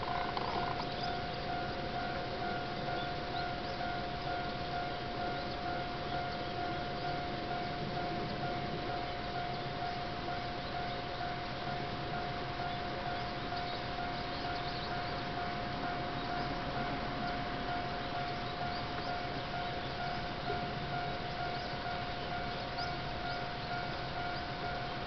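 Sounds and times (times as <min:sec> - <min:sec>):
level crossing alarm bell: 0:00.0 - 0:25.0.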